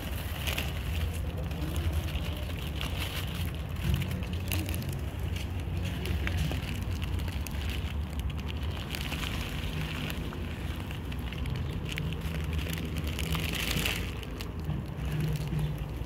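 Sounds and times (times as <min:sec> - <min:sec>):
dogs crunching food: 0:00.0 - 0:16.0
dry kibble pouring onto pavement: 0:00.0 - 0:16.0
plastic bag crinkling: 0:00.0 - 0:16.0.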